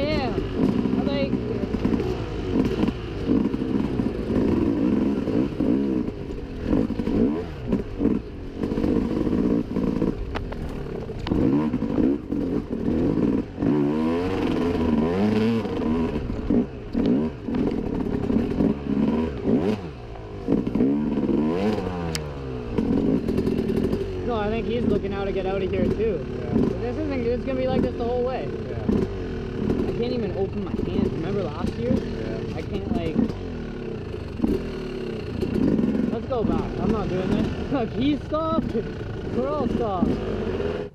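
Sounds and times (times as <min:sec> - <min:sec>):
clatter: 0:00.0 - 0:40.9
dirt bike engine revving: 0:00.0 - 0:40.9.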